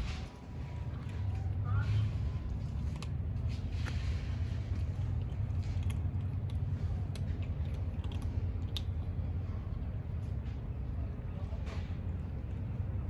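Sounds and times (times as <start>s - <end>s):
kittens chewing: 0.0s - 13.0s
steady low rumble: 0.0s - 13.0s.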